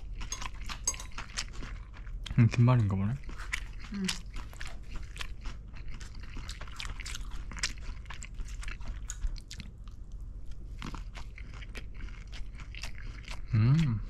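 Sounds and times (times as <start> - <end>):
chewing crunchy fried food: 0.0 - 14.0.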